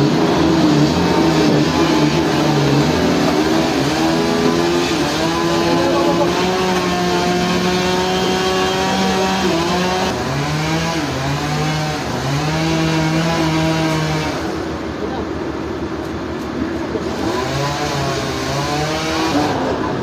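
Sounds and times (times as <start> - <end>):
heavy machinery engine under load: 0.0 - 20.0.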